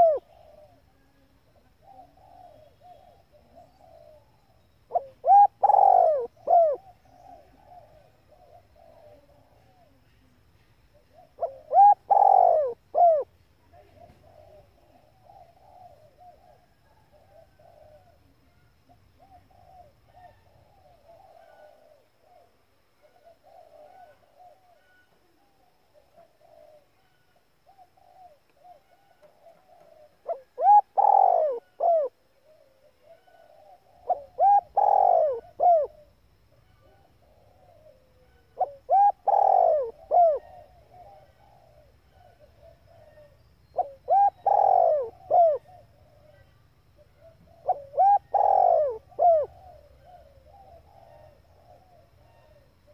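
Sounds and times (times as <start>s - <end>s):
dove cooing: 0.0s - 10.3s, 10.9s - 52.9s.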